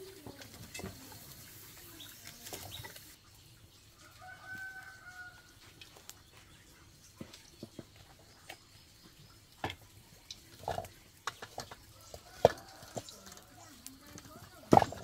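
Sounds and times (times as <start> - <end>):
hot oil popping in wok: 0.0 - 15.0
wood fire crackling: 0.0 - 15.0.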